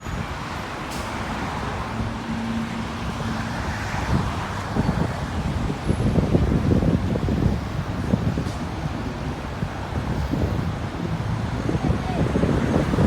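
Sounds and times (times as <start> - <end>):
expressway traffic: 0.0 - 13.0
wind buffeting microphone: 0.0 - 13.0.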